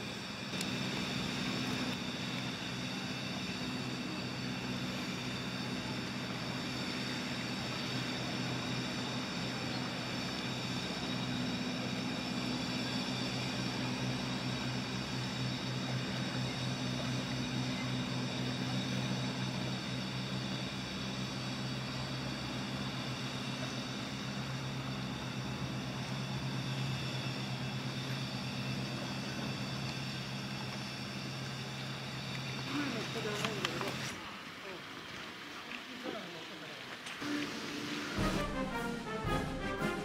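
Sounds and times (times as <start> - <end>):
mechanical drone with whine: 0.0 - 34.6, 37.1 - 40.0.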